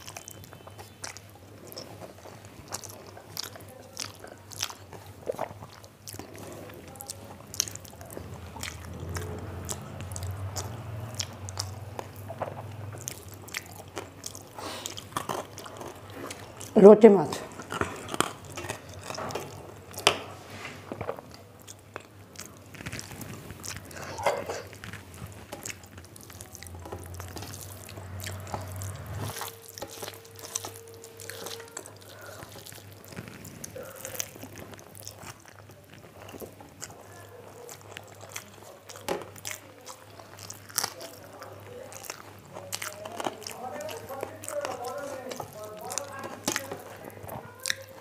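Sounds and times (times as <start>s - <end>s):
fingers squishing rice and curry: 0.0s - 16.8s, 17.5s - 48.0s
chewing: 0.0s - 48.0s.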